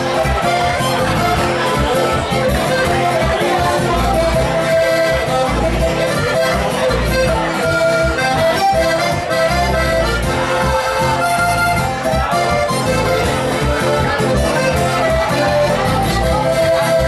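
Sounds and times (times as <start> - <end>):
folk-pop band with accordion: 0.0 - 17.0.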